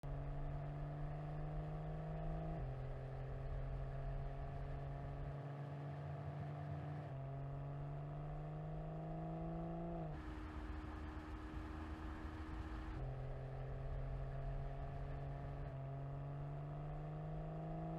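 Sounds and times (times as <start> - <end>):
car engine running: 0.0 - 17.9.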